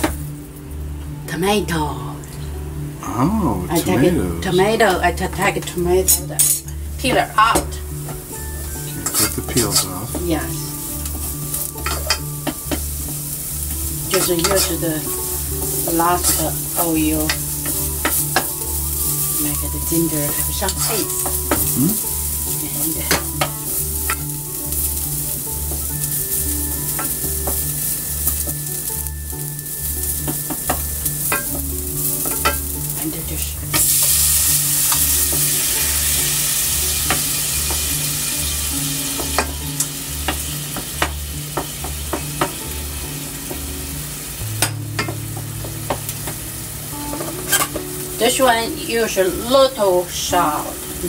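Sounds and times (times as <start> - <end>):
ginger sizzling in oil: 0.0 - 3.0, 4.2 - 51.0.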